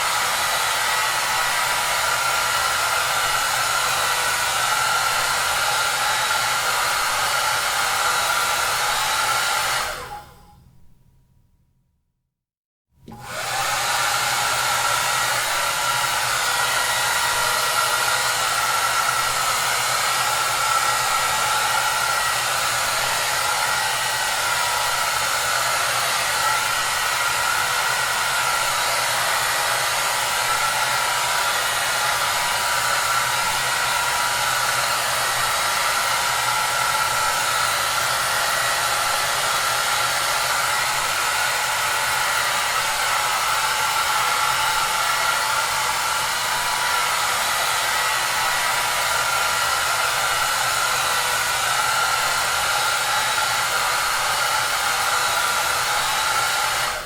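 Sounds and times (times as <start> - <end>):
hair dryer running: 0.0 - 10.5, 13.0 - 57.0.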